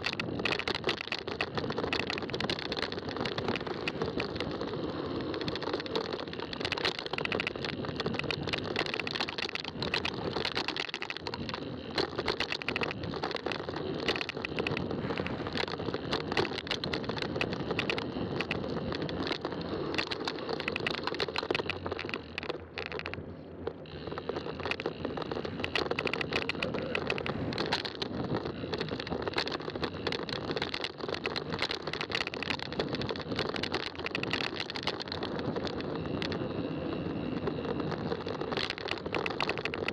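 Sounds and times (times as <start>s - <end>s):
bike rattling and clicking: 0.0s - 39.9s
bike tyres rolling on trail: 0.0s - 39.9s.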